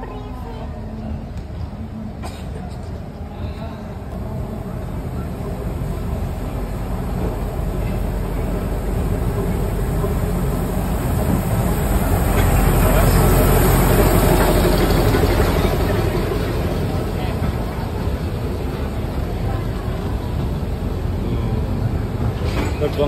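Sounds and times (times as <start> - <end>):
diesel locomotive engine rumbling: 0.0 - 23.0
train wheels rolling on rails: 0.0 - 23.0.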